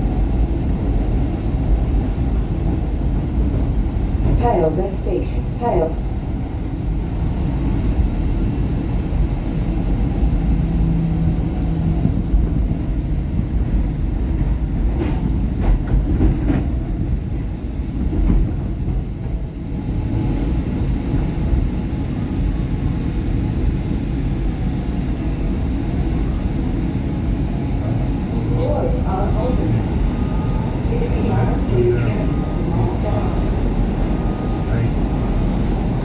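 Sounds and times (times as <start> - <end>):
train rumbling to a stop: 0.0 - 36.0.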